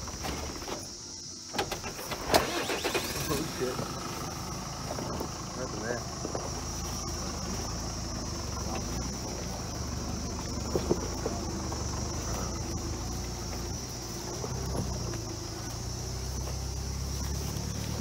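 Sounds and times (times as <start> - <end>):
high drone of insects: 0.0 - 18.0
vehicle engine running low: 1.6 - 18.0.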